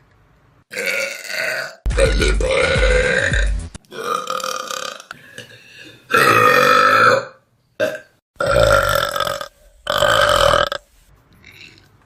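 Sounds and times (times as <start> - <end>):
person burping loudly: 0.7 - 10.8.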